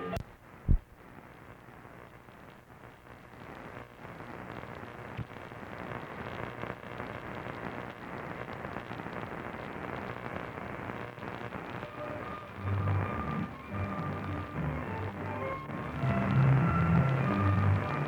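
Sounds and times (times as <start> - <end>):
radio static crackle: 0.0 - 18.0
shortwave radio static hiss: 0.0 - 18.0.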